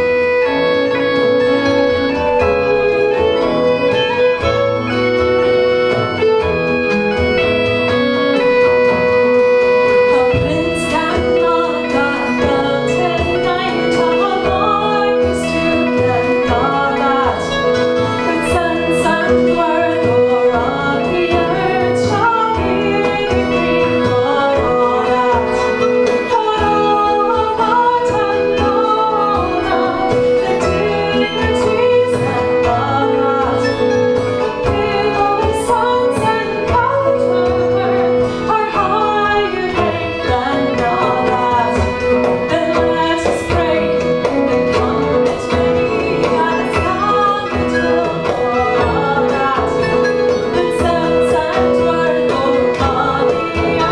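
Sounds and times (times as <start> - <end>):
folk band playing: 0.0 - 53.9
woman singing: 0.0 - 53.9.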